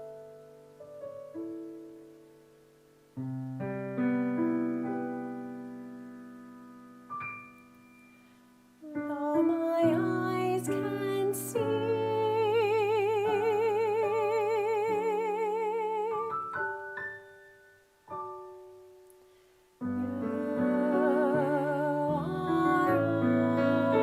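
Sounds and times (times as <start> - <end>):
keyboard music with piano tones: 0.0 - 14.5, 16.1 - 24.0.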